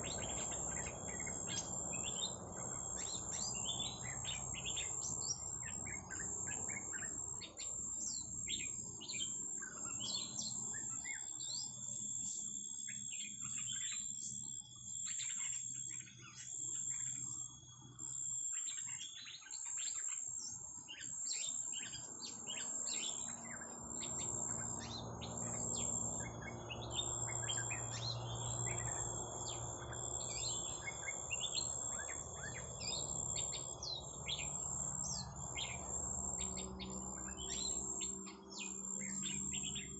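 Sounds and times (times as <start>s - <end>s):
small songbirds chirping: 0.0s - 39.9s
steady high-pitched whine: 0.0s - 39.9s.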